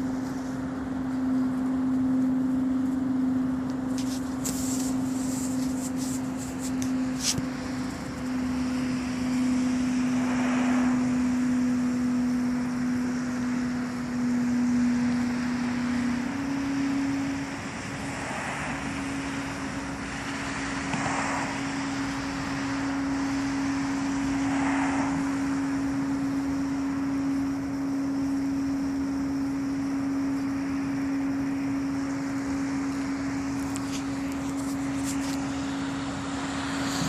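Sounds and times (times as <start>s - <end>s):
low hum: 0.0s - 37.0s
soft swells of noise: 0.0s - 37.0s.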